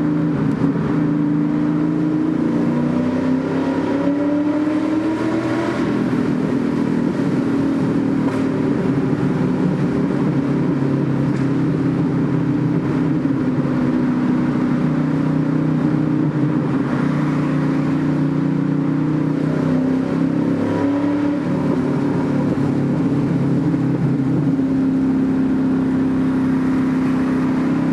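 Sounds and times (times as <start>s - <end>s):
car engine through loud exhaust: 0.0s - 27.9s.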